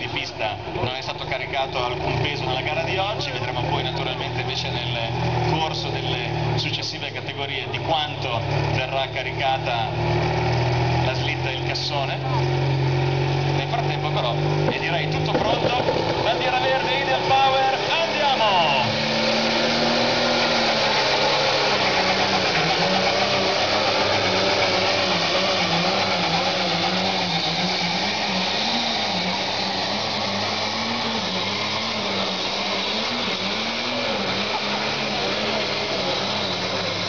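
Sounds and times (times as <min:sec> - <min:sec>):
tractor diesel engine running hard: 0:00.0 - 0:37.0.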